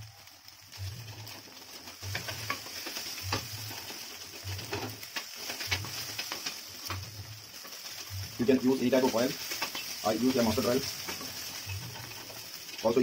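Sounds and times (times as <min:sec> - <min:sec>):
frying sizzle: 0:00.0 - 0:13.0
spatula scraping egg in a pan: 0:00.7 - 0:12.8.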